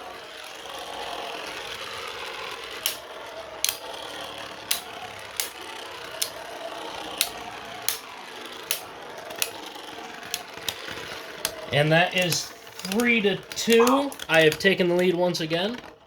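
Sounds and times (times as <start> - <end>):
spinning tops whirring: 0.0 - 16.0
spinning tops clacking together: 2.2 - 15.2.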